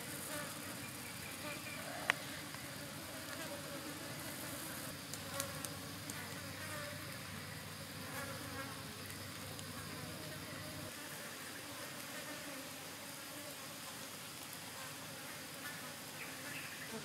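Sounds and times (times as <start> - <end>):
insects buzzing: 0.0 - 17.0
outdoor hiss: 0.0 - 17.0.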